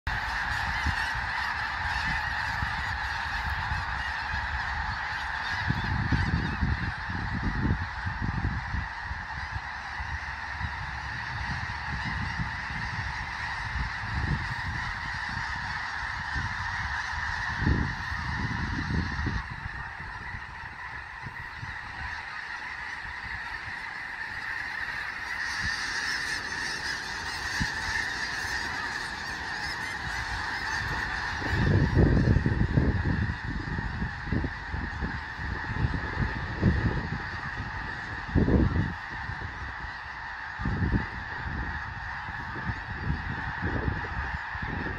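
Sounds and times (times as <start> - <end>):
flock of geese honking: 0.0 - 44.9.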